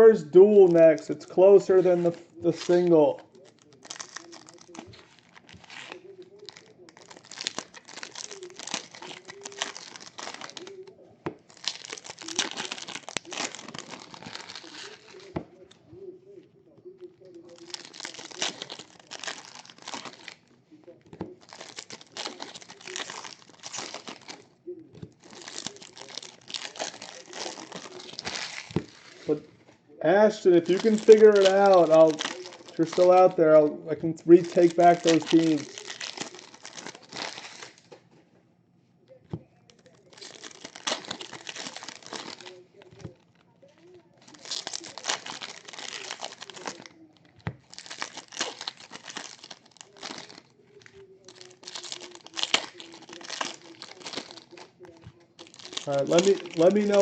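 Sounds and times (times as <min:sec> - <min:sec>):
packaging crinkling and rustling: 0:00.0 - 0:16.1, 0:16.8 - 0:38.2, 0:39.2 - 0:57.0.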